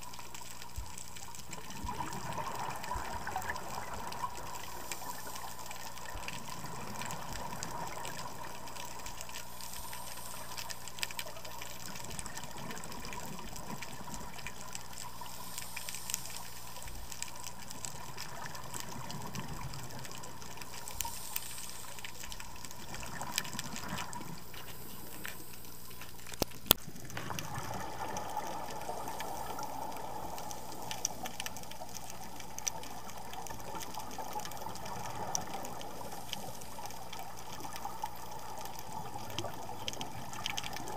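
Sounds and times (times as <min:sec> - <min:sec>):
faint underwater clicks: 0:00.0 - 0:40.9
muffled underwater hiss: 0:00.0 - 0:40.9.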